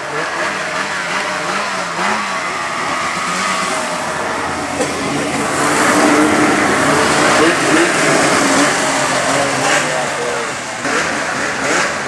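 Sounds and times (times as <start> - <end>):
snowmobile engines revving: 0.0 - 12.0.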